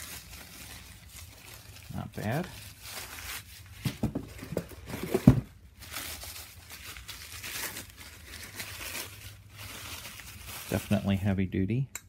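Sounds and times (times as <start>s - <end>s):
plastic wrap and paper crinkling: 0.0s - 11.5s.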